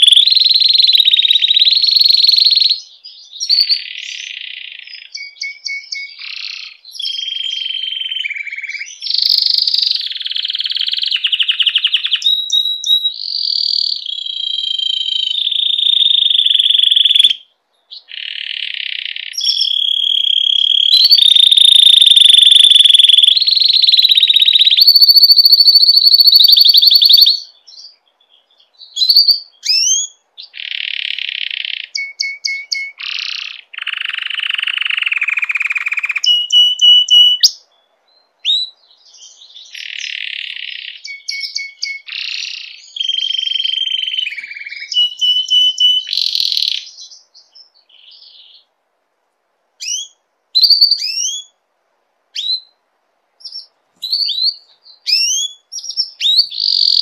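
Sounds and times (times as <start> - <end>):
canary singing trills: 0.0 - 48.7, 49.8 - 51.6, 52.3 - 52.8, 53.4 - 57.0.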